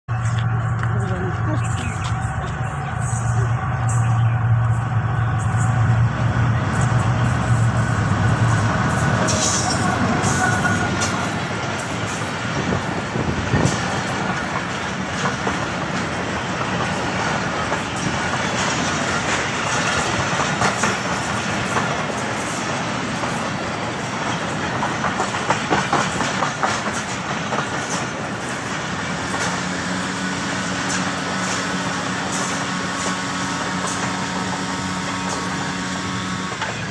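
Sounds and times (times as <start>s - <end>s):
diesel train passing: 0.1s - 36.9s
wheels clacking over rail joints: 0.1s - 36.9s.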